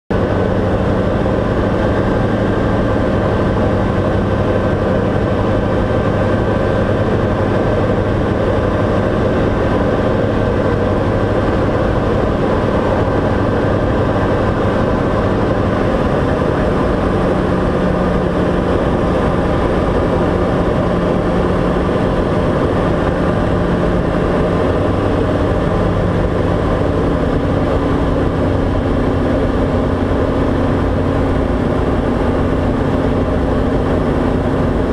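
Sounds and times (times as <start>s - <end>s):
propeller plane engine droning: 0.1s - 34.9s.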